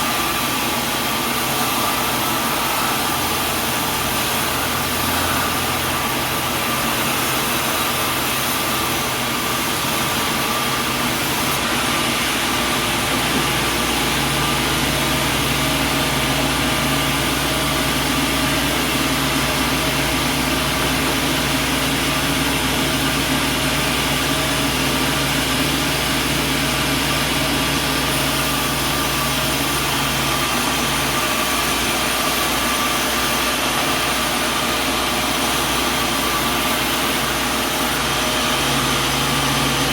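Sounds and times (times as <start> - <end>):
motor humming: 0.0 - 39.9
sawmill machinery whirring: 0.0 - 39.9.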